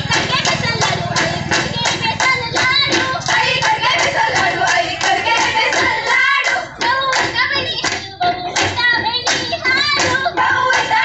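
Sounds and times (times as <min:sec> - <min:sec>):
rhythmic hand claps: 0:00.0 - 0:11.0
women singing folk song: 0:00.0 - 0:11.0.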